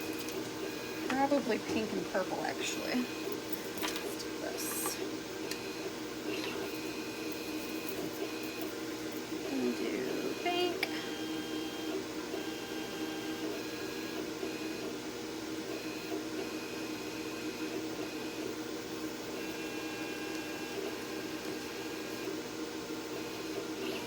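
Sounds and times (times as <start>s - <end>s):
cutting machine motor hum: 0.0s - 24.0s.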